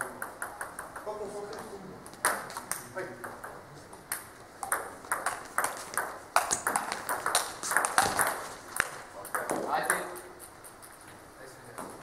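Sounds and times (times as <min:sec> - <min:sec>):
ball bouncing on table: 0:00.0 - 0:10.8, 0:11.7 - 0:12.0
ball clicking off bats: 0:00.0 - 0:11.1.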